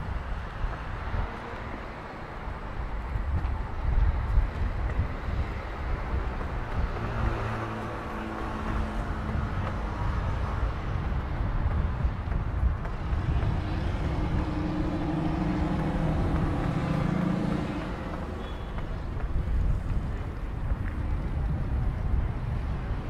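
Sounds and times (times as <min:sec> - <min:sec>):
traffic low rumble: 0:00.0 - 0:23.0
vehicle engine hum: 0:00.0 - 0:23.0.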